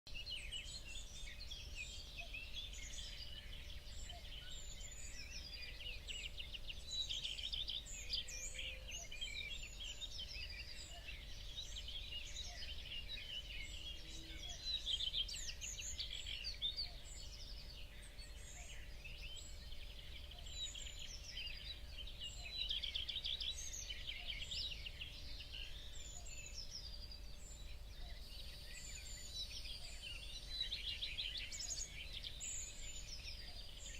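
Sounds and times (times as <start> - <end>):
small birds chirping and trilling: 0.1 - 33.9.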